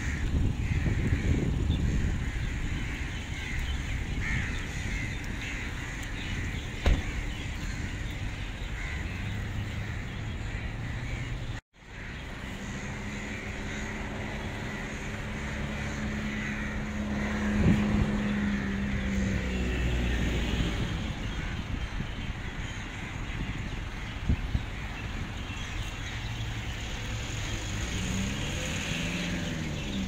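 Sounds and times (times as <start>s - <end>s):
flock of crows cawing: 0.0s - 24.2s, 24.8s - 29.9s.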